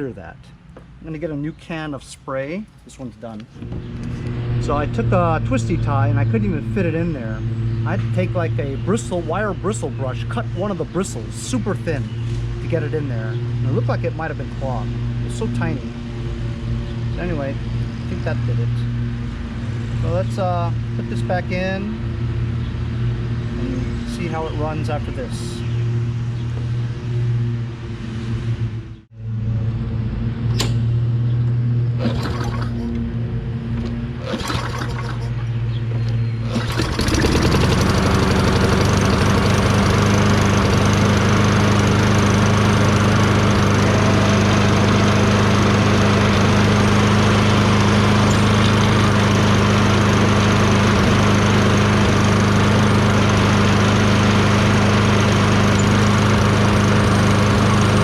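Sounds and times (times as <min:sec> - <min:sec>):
lawn mower engine running: 0:02.0 - 0:58.0.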